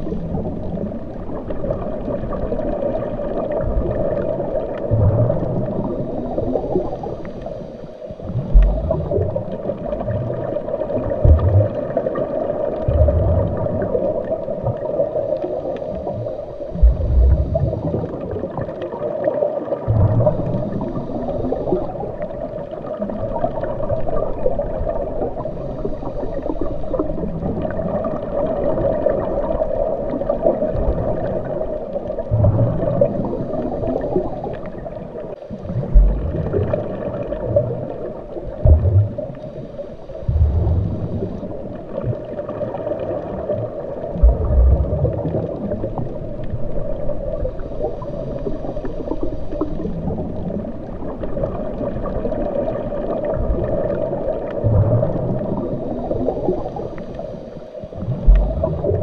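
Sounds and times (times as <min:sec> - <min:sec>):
bubbling and gurgling: 0:00.0 - 0:59.0
underwater water noise: 0:00.0 - 0:59.0.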